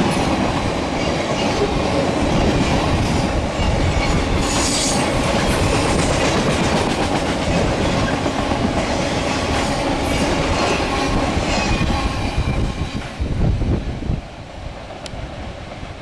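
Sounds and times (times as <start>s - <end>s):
train wheels clattering on rails: 0.0s - 13.2s.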